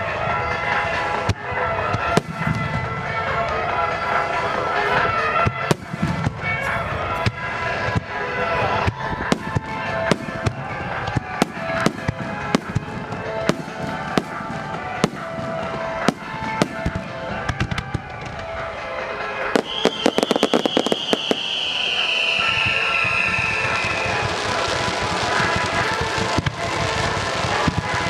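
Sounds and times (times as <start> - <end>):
music: 0.0 - 28.0
fireworks bursting in sharp bangs: 1.0 - 28.0.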